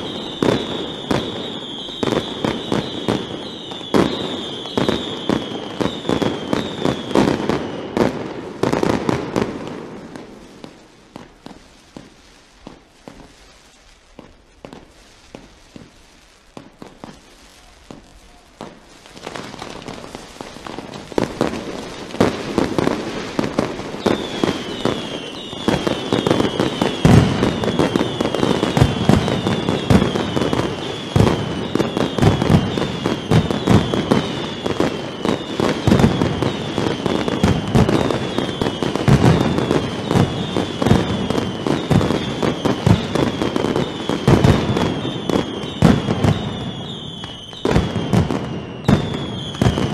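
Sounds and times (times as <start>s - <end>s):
firecrackers banging: 0.0s - 49.9s
whistling fireworks: 0.0s - 49.9s.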